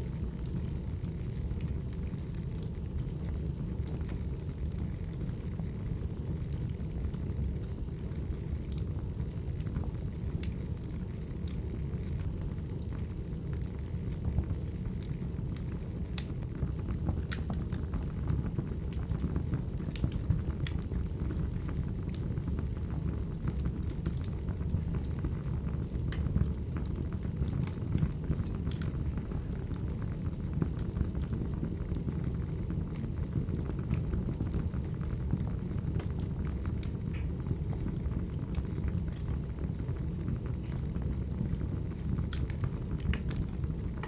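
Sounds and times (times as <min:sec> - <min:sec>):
flames rumbling: 0:00.0 - 0:44.0
wood crackling and popping: 0:00.0 - 0:44.0.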